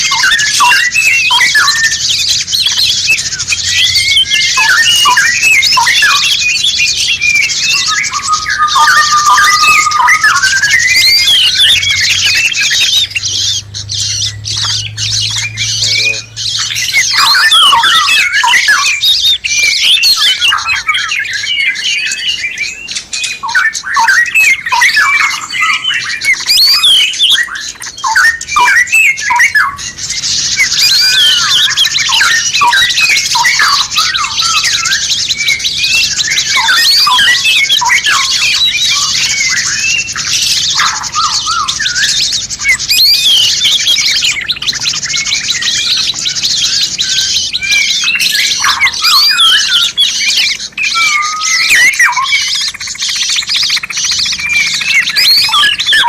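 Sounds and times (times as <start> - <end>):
songbirds chirping and whistling: 0.0 - 56.0.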